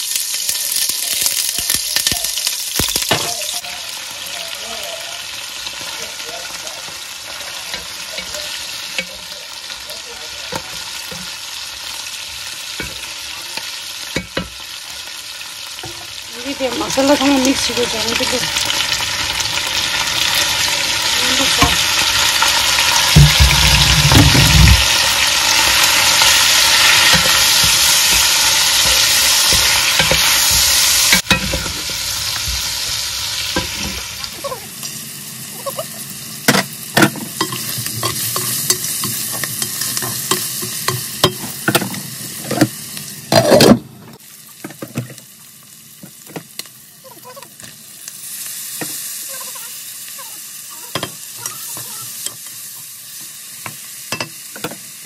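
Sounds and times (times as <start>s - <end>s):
chicken wings sizzling in oil: 0.0s - 55.0s.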